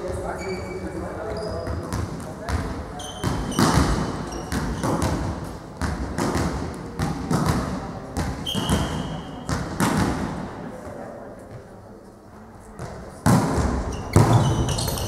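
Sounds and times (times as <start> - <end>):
volleyball bouncing on gym floor: 1.2 - 11.7, 12.8 - 15.0.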